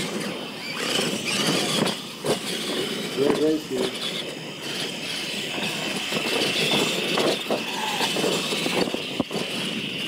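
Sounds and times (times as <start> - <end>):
high motor whine: 0.0 - 10.0
toy trucks clattering and knocking: 0.0 - 10.0.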